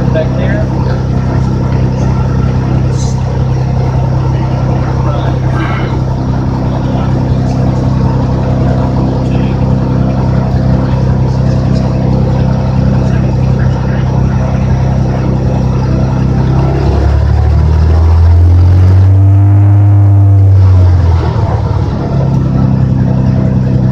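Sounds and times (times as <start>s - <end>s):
propeller plane engine running: 0.0s - 23.9s.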